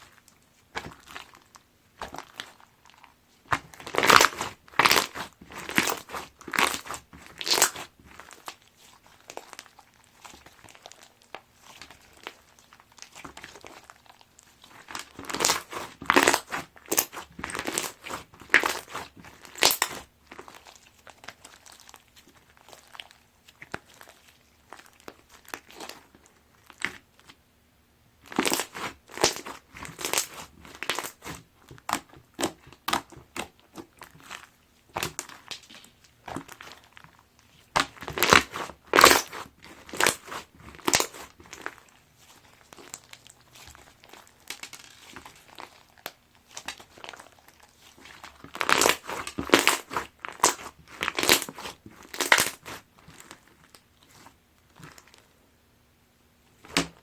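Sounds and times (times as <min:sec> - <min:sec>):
crunchy slime being squeezed: 0:00.0 - 0:27.4, 0:28.2 - 0:55.3.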